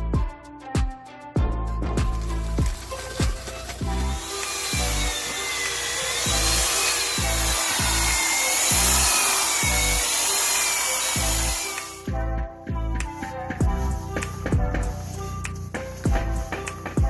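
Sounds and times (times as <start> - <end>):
background music with steady beat: 0.0 - 17.0
power tool running on wood: 2.2 - 12.1, 13.2 - 17.0.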